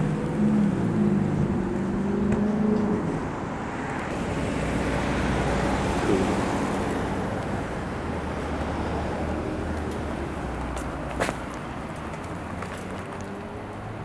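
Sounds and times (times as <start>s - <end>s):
car passing with tyre noise: 0.0s - 14.0s.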